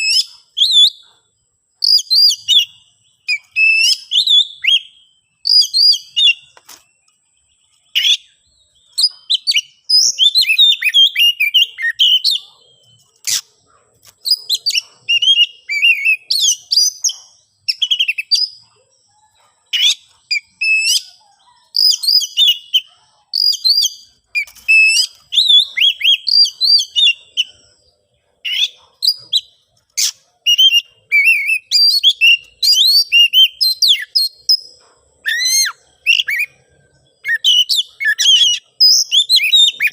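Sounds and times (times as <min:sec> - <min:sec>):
bird singing whistled phrases: 0:00.0 - 0:01.0, 0:01.8 - 0:06.6, 0:07.8 - 0:13.4, 0:14.2 - 0:18.6, 0:19.7 - 0:27.7, 0:28.4 - 0:39.9.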